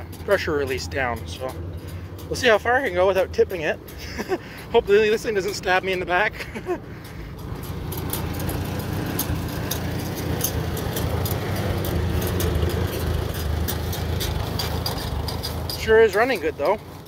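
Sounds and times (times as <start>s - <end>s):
light clicking and rattling: 0.0s - 17.0s
tractor engine running: 0.0s - 17.0s.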